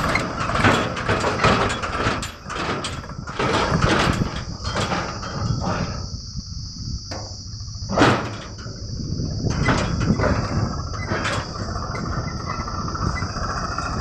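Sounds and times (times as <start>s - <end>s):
metal clanks and knocks: 0.0s - 6.1s, 7.1s - 14.0s
diesel machinery rumbling: 0.0s - 14.0s.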